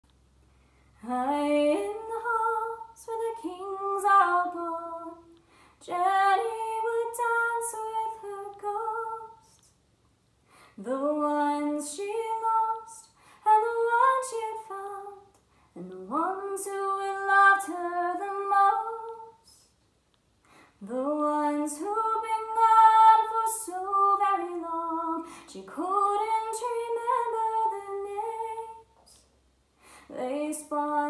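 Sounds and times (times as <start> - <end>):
woman singing unaccompanied: 1.0 - 9.7, 10.8 - 19.6, 20.8 - 29.2, 30.1 - 31.0.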